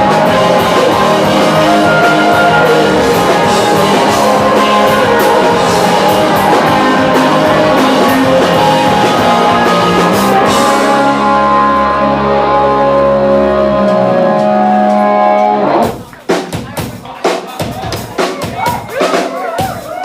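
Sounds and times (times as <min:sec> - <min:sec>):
electric guitars: 0:00.0 - 0:16.2
bass guitar: 0:00.0 - 0:17.0
drum kit: 0:00.0 - 0:20.0.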